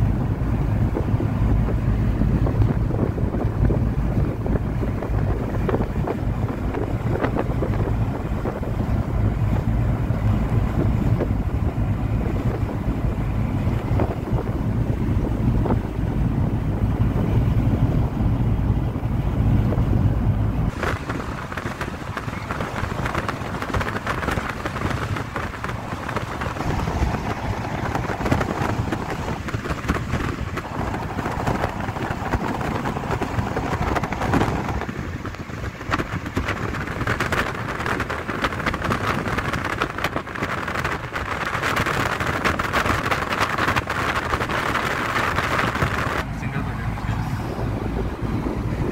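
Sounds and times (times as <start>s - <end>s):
road and wind noise: 0.0s - 48.9s
wind buffeting on microphone: 0.0s - 48.9s.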